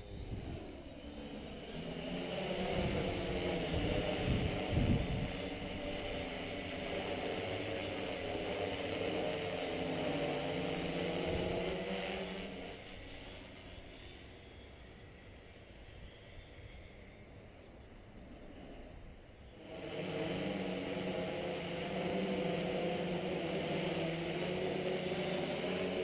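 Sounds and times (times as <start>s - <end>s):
drone motors humming: 0.0s - 26.0s.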